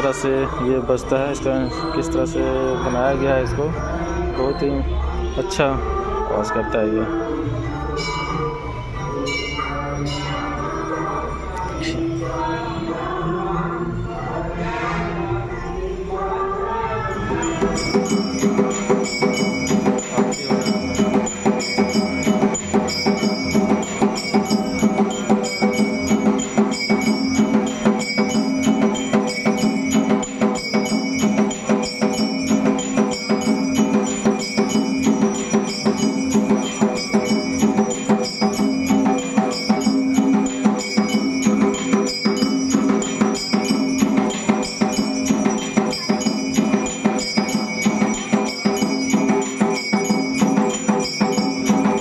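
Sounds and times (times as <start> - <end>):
mechanical strikers beating bells: 0.0 - 13.4, 17.1 - 52.0
bells ringing: 0.0 - 14.4, 15.5 - 52.0.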